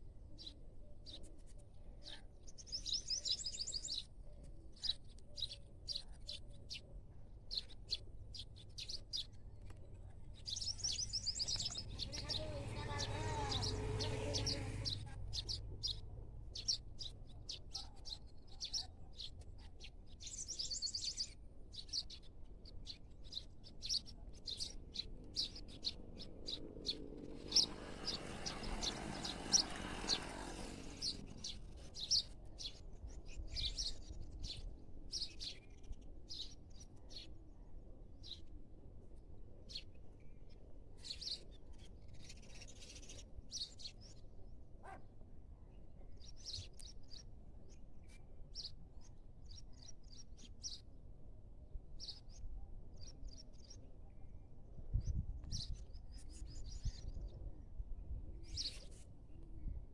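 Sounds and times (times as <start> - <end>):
small birds chirping: 0.2 - 38.6, 39.6 - 51.0, 52.0 - 59.9.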